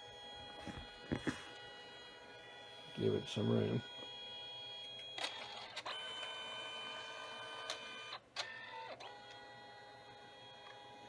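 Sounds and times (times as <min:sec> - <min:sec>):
printer motor whining: 0:00.0 - 0:11.0.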